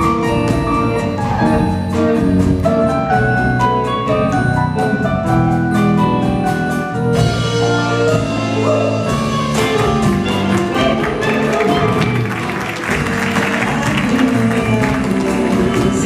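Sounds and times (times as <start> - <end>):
orchestral music: 0.0 - 16.0.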